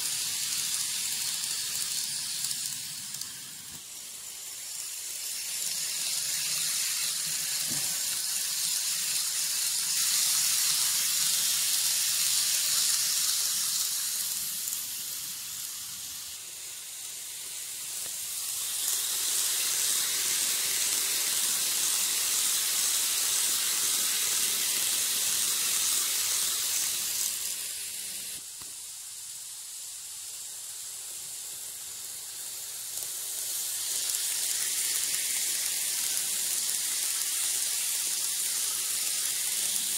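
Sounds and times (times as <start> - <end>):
train whirring hiss on rails: 0.0 - 39.9.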